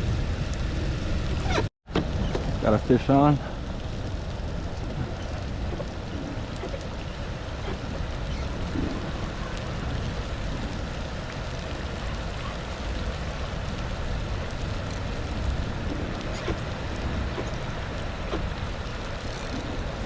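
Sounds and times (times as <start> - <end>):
steady rain: 0.0 - 20.0
wind rumbling on microphone: 0.0 - 20.0
raindrop ticks: 1.9 - 20.0.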